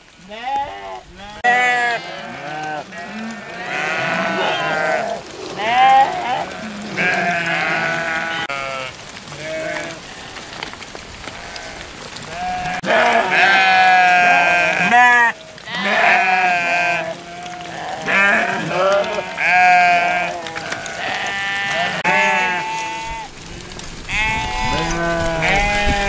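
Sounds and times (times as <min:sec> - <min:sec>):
sheep bleating: 0:00.2 - 0:10.6, 0:11.3 - 0:26.0.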